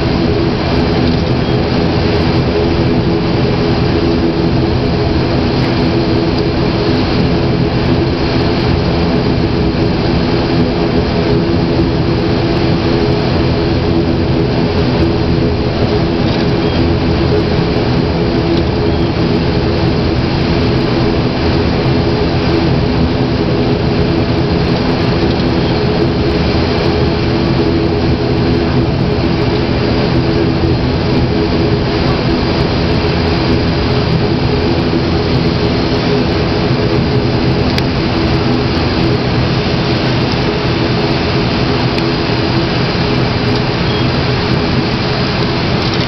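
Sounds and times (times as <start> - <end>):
propeller engines droning in cabin: 0.0 - 46.0.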